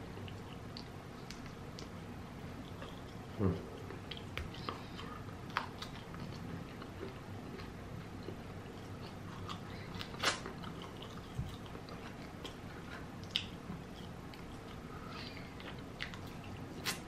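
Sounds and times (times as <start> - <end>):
person chewing fried chicken: 0.0 - 17.0.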